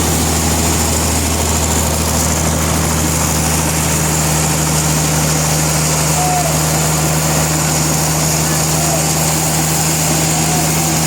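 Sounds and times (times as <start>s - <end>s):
sawmill machinery drone: 0.0s - 11.0s.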